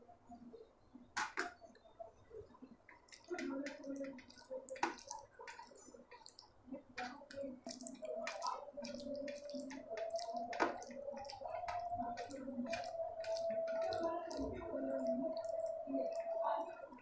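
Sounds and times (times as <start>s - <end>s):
fingers squishing sticky food: 2.8s - 17.0s.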